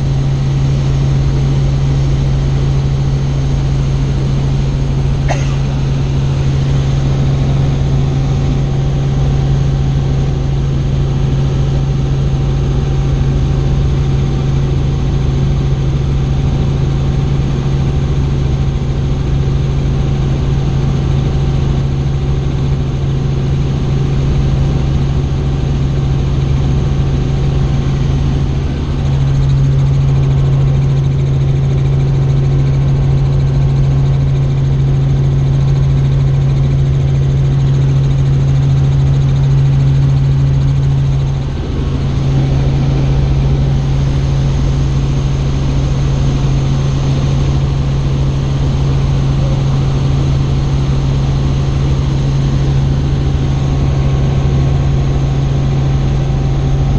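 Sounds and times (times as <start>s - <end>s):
helicopter rotor and engine drone: 0.0s - 56.9s.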